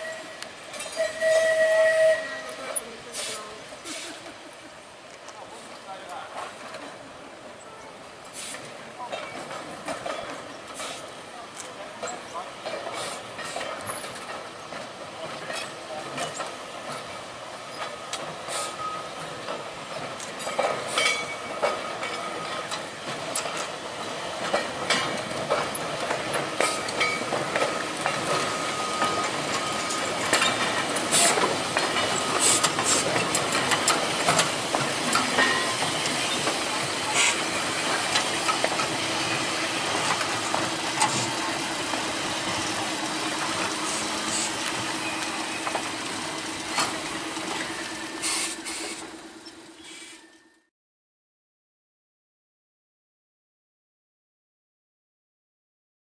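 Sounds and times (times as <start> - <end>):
tram wheels clicking over rail joints: 0.0 - 50.7.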